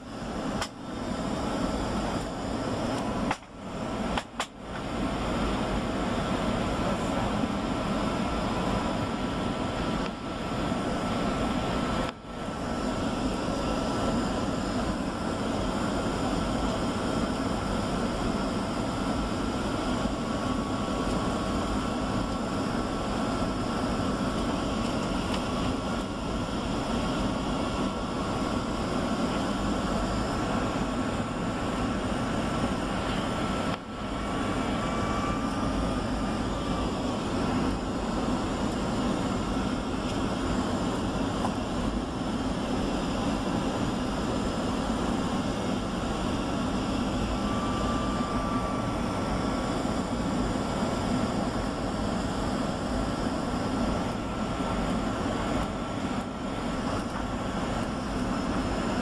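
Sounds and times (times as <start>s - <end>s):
faint high whine: 0.0s - 59.0s
jet engine and airflow rush: 0.0s - 59.0s.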